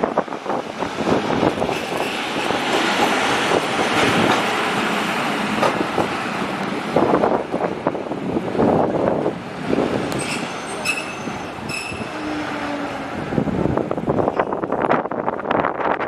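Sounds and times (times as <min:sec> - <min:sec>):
wheels rumbling on rail: 0:00.0 - 0:16.0
wind buffeting microphone: 0:00.0 - 0:16.0.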